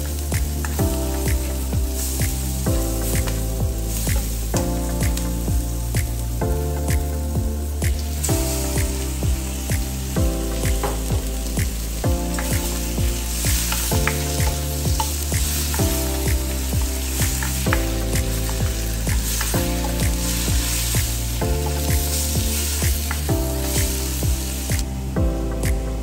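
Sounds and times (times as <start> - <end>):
chicken sizzling in a wok: 0.0 - 6.0, 7.4 - 25.1
background music with steady beat: 0.0 - 26.0.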